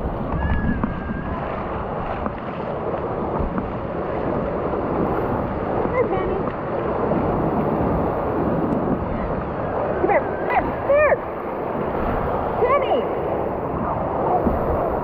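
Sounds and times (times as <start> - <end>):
surf washing and splashing: 0.0 - 15.0
wind buffeting microphone: 0.0 - 15.0.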